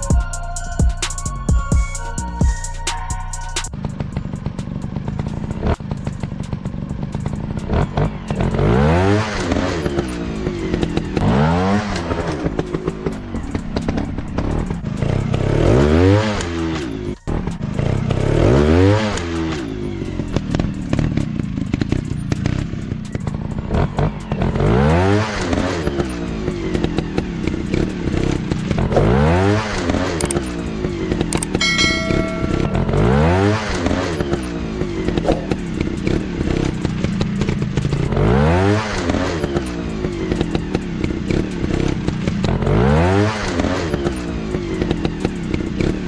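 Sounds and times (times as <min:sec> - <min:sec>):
dirt bike engines revving: 0:03.5 - 0:46.0.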